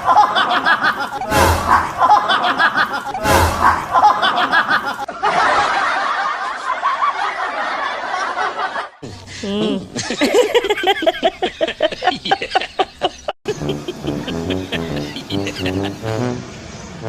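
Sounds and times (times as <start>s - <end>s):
canned laughter: 0.0s - 16.4s.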